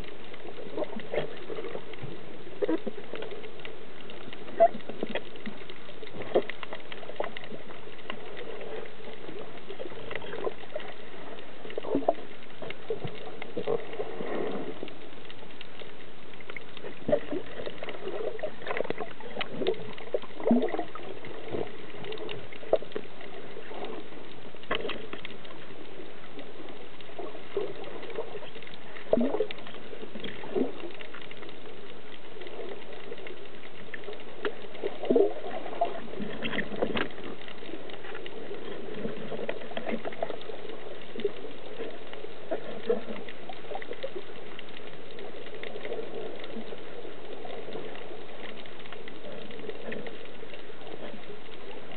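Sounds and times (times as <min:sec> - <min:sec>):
bubbling swishes: 0:00.0 - 0:51.9.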